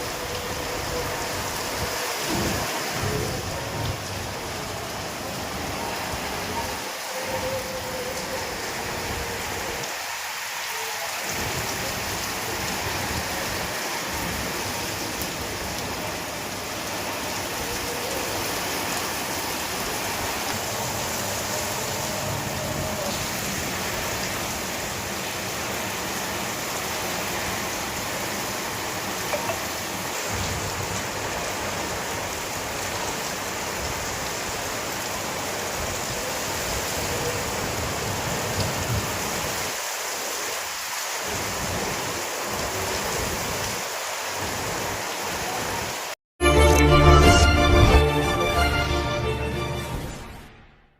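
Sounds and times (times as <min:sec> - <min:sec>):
steady rain falling: 0:00.0 - 0:50.1.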